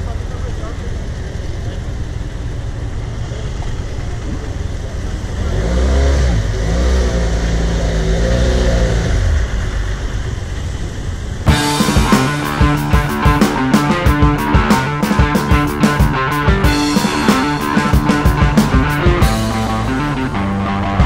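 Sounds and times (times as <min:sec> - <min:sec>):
steady low rumble: 0:00.0 - 0:05.5, 0:08.9 - 0:21.0
motorcycle engine pulling away: 0:00.4 - 0:21.0.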